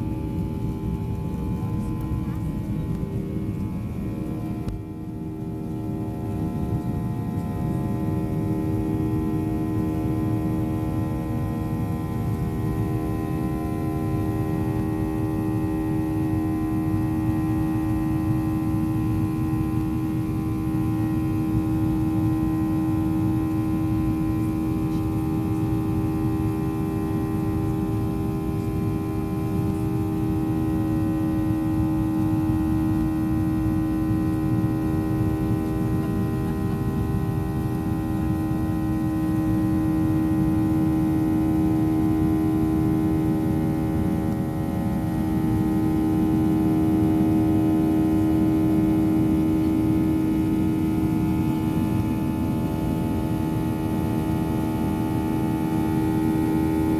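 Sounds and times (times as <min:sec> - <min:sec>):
jet engine drone in cabin: 0:00.0 - 0:56.9.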